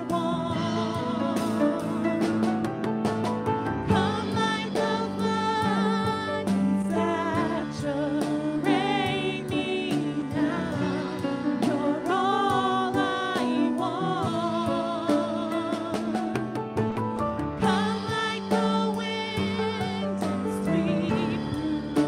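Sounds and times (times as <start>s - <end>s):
women singing with vibrato: 0.0s - 2.6s, 3.8s - 16.6s, 17.6s - 22.0s
drum kit with cymbals: 0.0s - 22.0s
upright piano: 0.0s - 22.0s.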